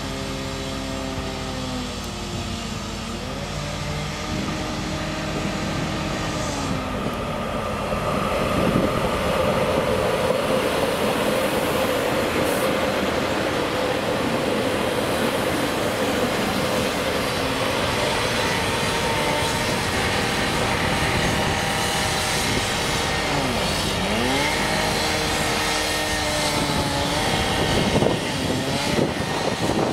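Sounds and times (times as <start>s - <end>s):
train engine: 0.0s - 29.9s
train wheels rumbling on rails: 4.0s - 29.9s.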